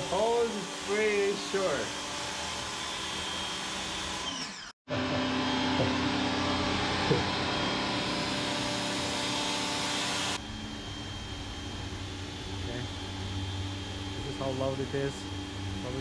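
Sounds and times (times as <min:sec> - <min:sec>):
pressure washer motor humming: 0:00.0 - 0:16.0.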